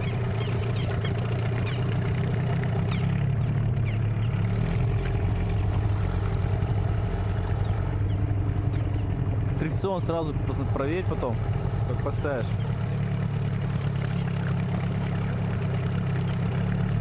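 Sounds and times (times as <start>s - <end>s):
outboard motor running: 0.0s - 17.0s
water: 0.0s - 17.0s
wind: 0.0s - 17.0s.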